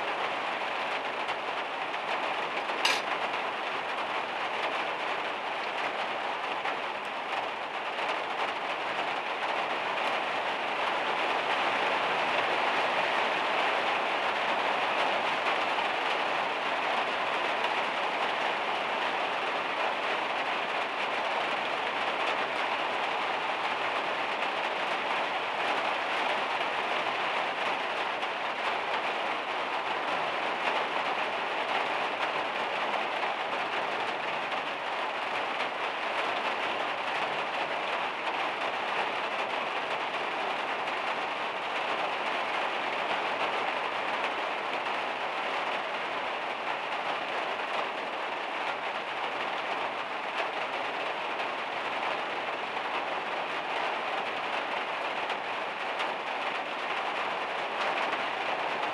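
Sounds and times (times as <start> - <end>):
heavy rain on a metal roof: 0.0 - 58.9.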